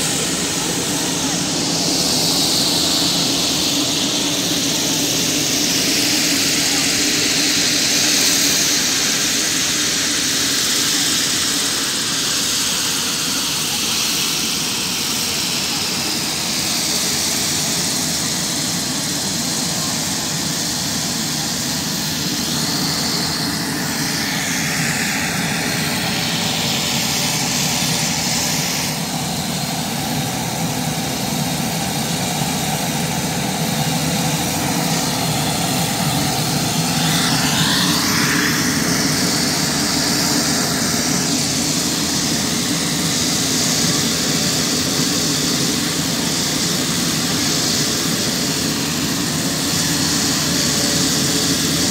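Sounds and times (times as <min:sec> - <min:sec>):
turboprop aircraft taxiing: 0:00.0 - 0:51.9.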